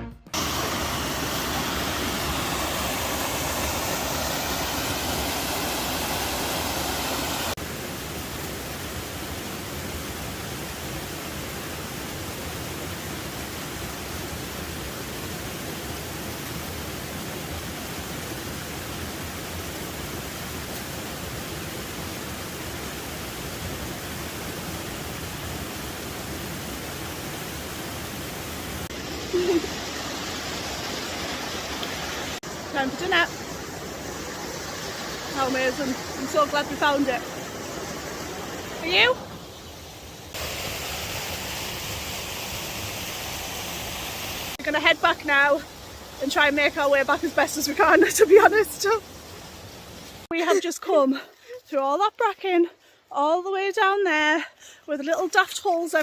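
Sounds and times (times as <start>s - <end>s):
waterfall rushing: 0.4s - 50.6s.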